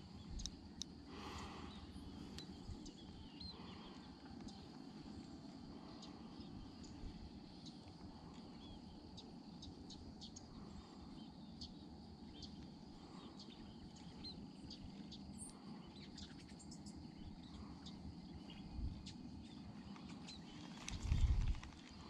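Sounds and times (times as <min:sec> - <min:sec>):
low steady rumble: 0:00.0 - 0:22.0
small birds chirping: 0:00.0 - 0:22.0.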